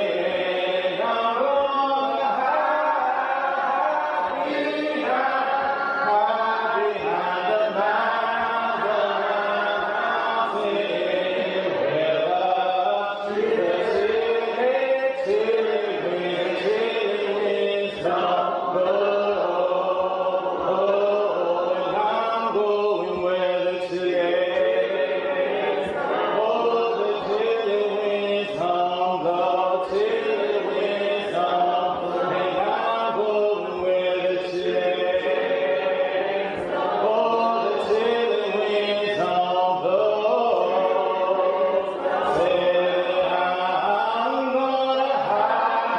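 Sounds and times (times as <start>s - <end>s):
group singing a hymn: 0.0s - 45.9s.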